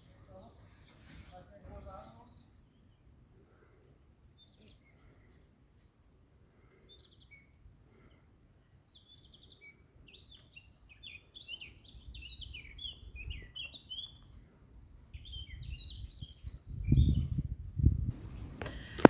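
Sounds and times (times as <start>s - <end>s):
small birds chirping and trilling: 0.0s - 17.6s.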